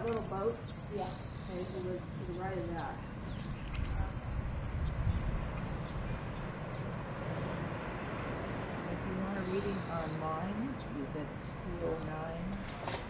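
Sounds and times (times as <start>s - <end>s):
wind and sea rush: 0.0s - 13.0s.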